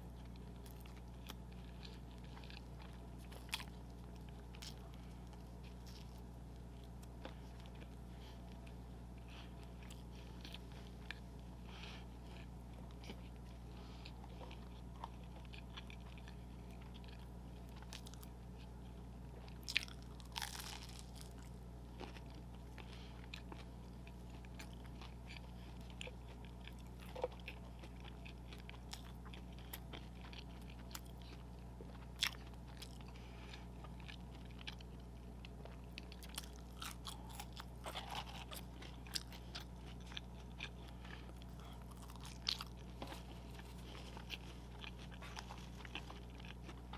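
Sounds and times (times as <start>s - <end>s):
person chewing and biting food: 0.0s - 46.9s
steady low hum: 0.0s - 46.9s.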